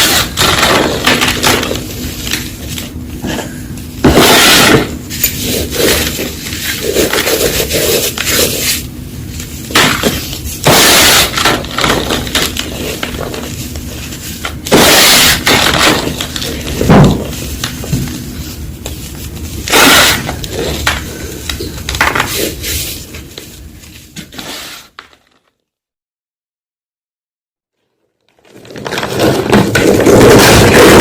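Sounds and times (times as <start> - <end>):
chalk blocks crunching: 0.0 - 25.0, 28.5 - 31.0.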